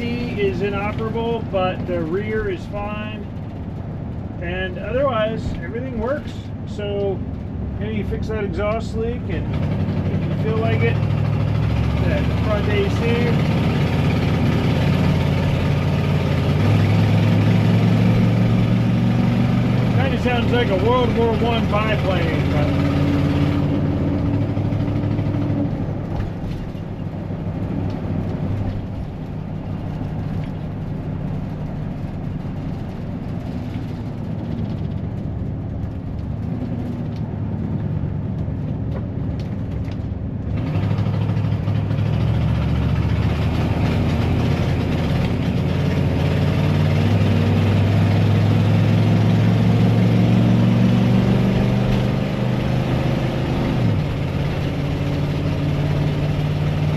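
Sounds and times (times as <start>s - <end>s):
engine with rough exhaust note: 0.0s - 56.9s.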